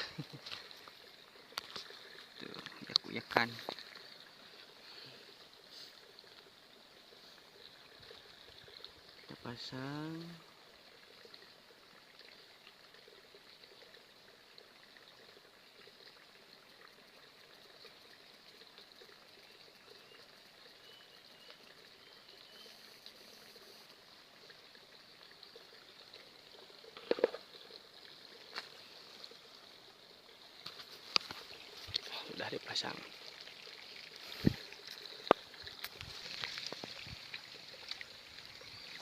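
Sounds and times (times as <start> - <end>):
water trickling in channel: 0.0 - 39.0.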